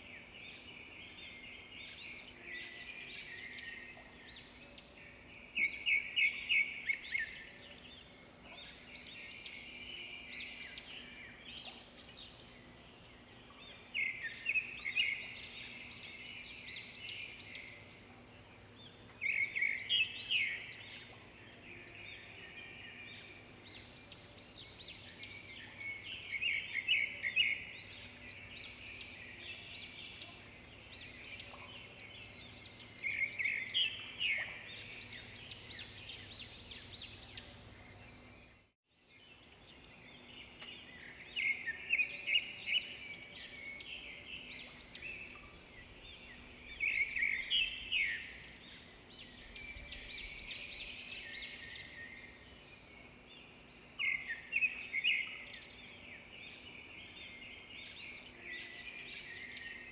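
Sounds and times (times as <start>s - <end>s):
birds chirping chorus: 0.0s - 59.9s.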